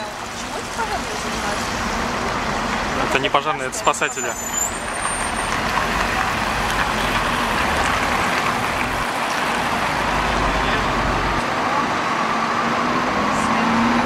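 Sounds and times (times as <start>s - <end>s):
bus passing close by: 0.0s - 14.0s
city road traffic: 0.0s - 14.0s.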